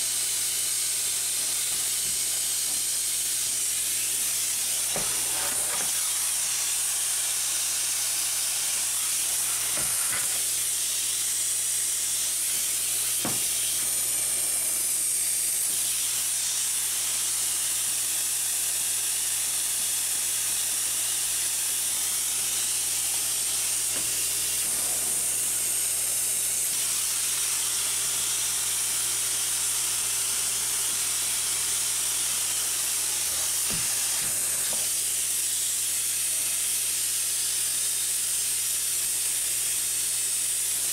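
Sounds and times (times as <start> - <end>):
spray foam gun hissing: 0.0 - 40.9.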